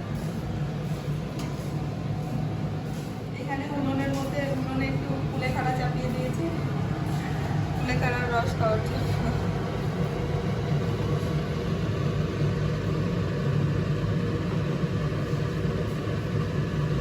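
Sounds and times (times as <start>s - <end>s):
stove burner rumble: 0.0s - 17.0s.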